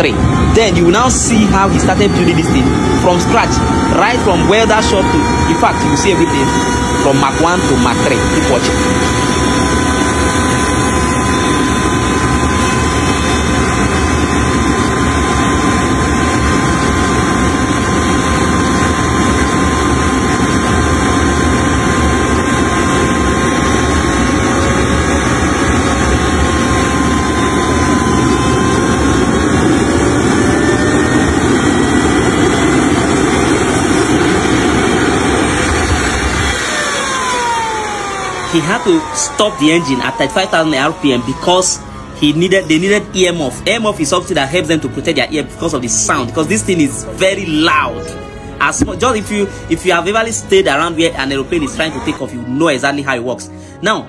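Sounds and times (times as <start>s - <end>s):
jet engine roar and whine: 0.0s - 54.0s.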